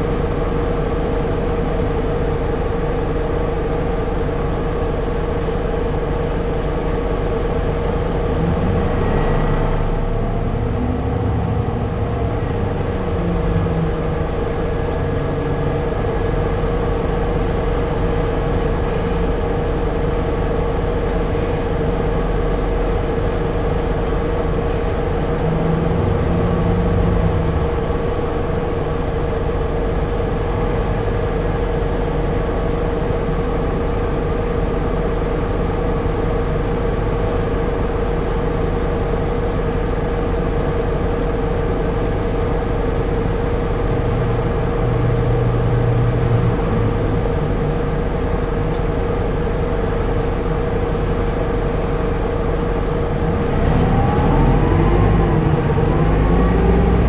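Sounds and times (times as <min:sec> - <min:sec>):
bus engine whining: 0:00.0 - 0:57.0.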